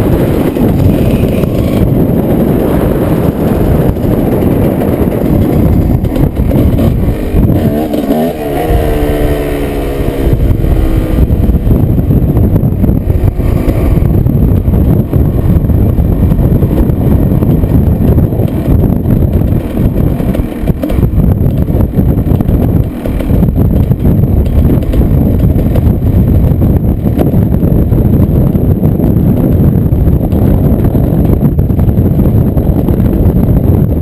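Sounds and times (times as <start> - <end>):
pitched whine: 0.0 - 28.0
wind buffeting microphone: 0.0 - 34.0.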